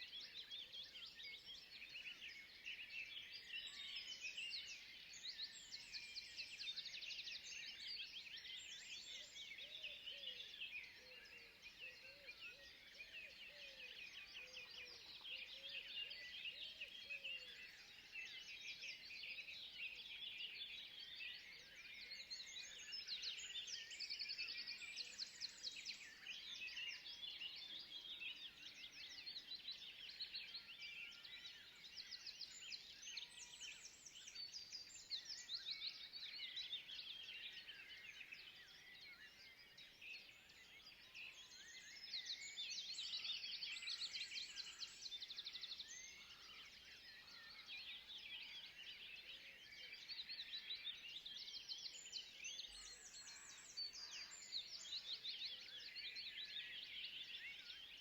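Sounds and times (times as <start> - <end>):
small birds chirping: 0.3 - 58.0.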